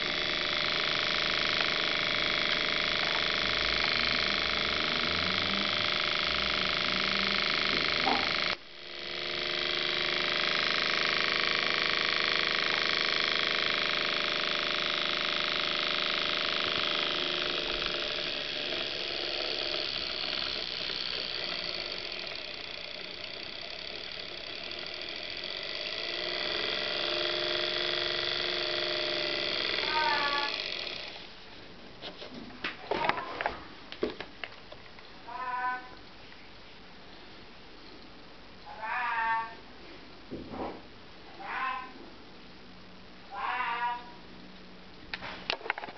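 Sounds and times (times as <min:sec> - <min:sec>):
motor-generator whine and buzz: 0:00.0 - 0:36.2, 0:37.0 - 0:45.9.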